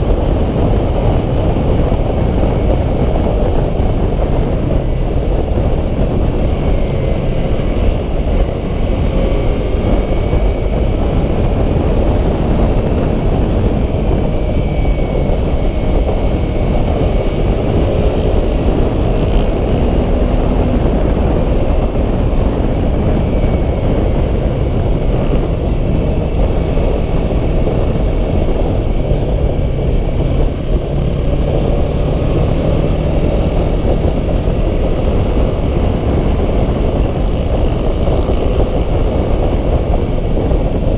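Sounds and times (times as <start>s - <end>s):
motorcycle engine drone: 0.0s - 40.9s
wind rushing over microphone: 0.0s - 40.9s.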